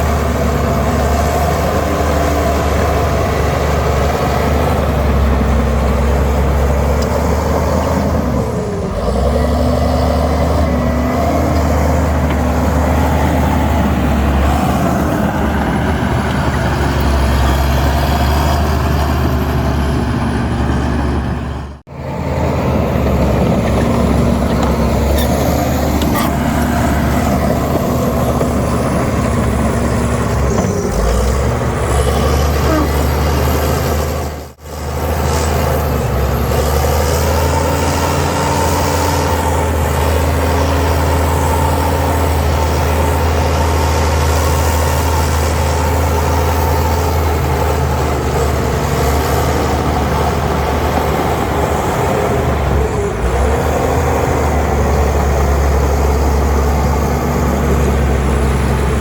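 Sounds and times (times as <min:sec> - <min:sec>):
heavy diesel machinery drone: 0:00.0 - 0:59.0.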